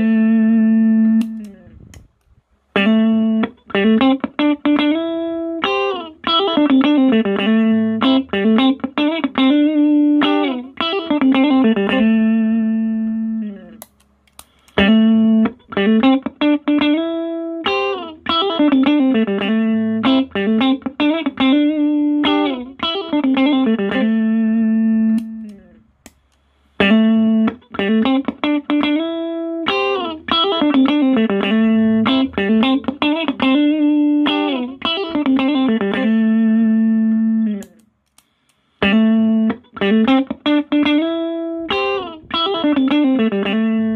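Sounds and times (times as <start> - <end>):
clean electric guitar melody: 0.0 - 2.1, 2.7 - 13.8, 14.8 - 25.8, 26.8 - 37.8, 38.8 - 43.9.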